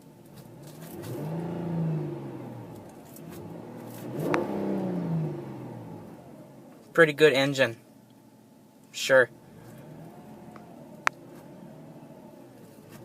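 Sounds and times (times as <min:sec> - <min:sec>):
car engine revving: 0:00.2 - 0:07.2, 0:09.3 - 0:13.0.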